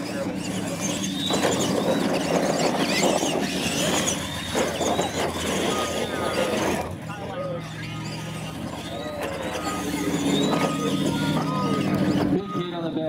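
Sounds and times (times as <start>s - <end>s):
electric motors whining: 0.0s - 13.0s
tyres crackling on pavement: 0.0s - 13.0s.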